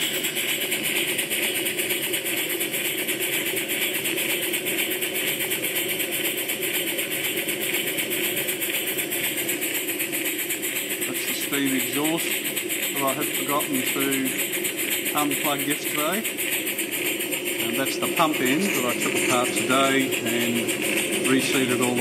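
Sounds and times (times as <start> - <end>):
steam pump clattering: 0.0 - 22.0.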